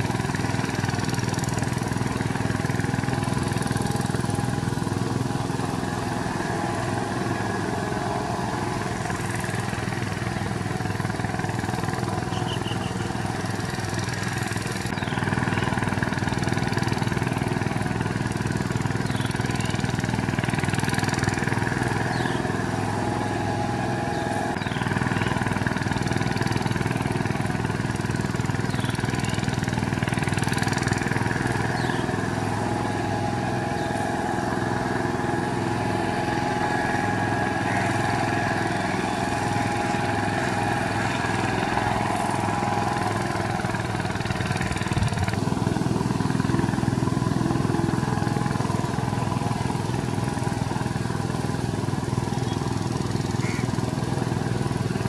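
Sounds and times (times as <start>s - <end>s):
diesel tiller engine running: 0.0s - 55.0s.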